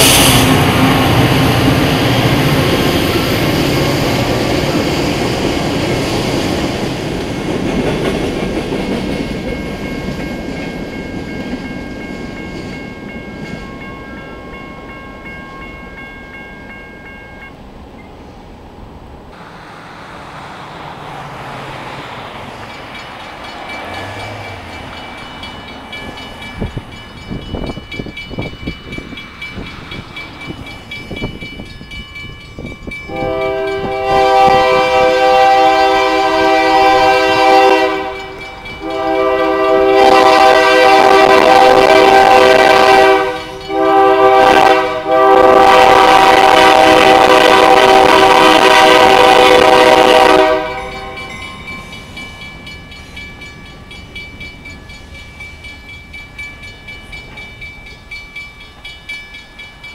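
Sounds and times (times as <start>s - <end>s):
freight train rumbling: 0.0s - 59.9s
crossing bell ringing: 8.4s - 18.2s, 21.6s - 59.9s.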